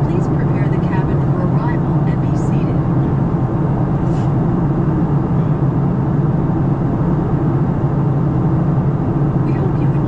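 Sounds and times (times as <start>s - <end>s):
airplane cabin engine drone: 0.0s - 10.0s
airflow over fuselage: 0.1s - 10.0s.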